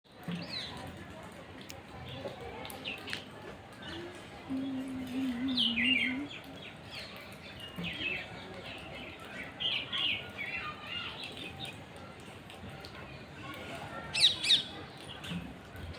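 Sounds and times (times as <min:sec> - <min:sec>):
small birds chirping: 0:00.2 - 0:01.0, 0:01.9 - 0:15.9.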